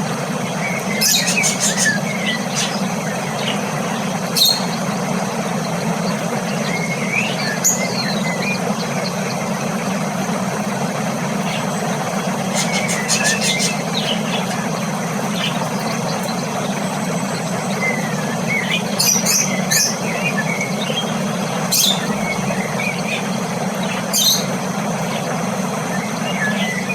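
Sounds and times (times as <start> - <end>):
cockatiels chirping and calling: 0.0 - 26.9
low background hum: 0.0 - 26.9.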